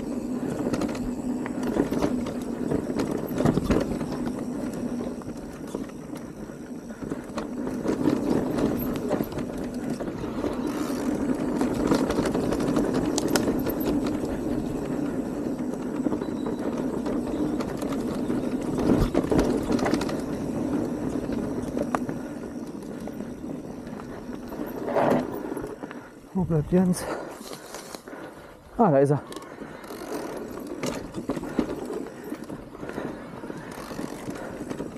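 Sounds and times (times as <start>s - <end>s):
bike rattling and clicking: 0.0s - 34.9s
bike tyres rumbling on dirt: 0.0s - 34.9s.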